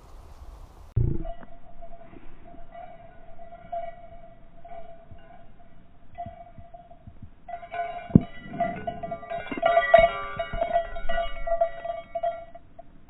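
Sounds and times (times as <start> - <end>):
steady held tone: 1.0 - 13.0.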